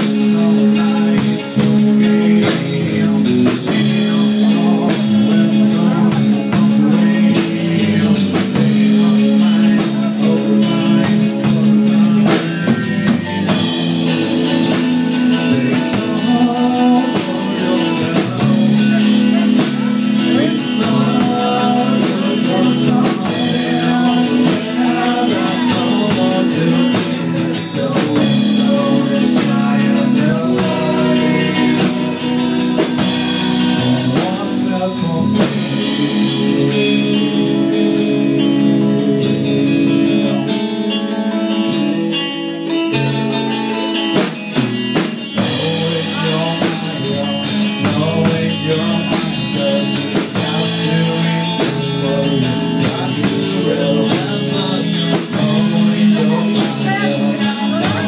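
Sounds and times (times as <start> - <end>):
man singing: 0.0 - 58.0
rock band playing: 0.0 - 58.0.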